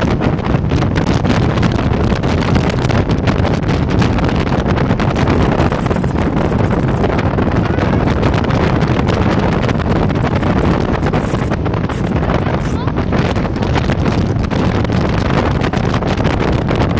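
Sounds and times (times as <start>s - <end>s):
speedboat engine: 0.0s - 16.9s
wind buffeting microphone: 0.0s - 16.9s.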